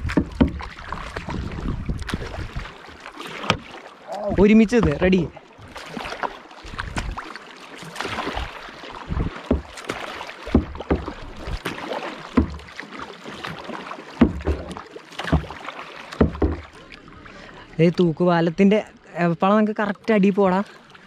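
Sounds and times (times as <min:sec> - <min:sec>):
kayak paddles splashing in water: 0:00.0 - 0:18.3.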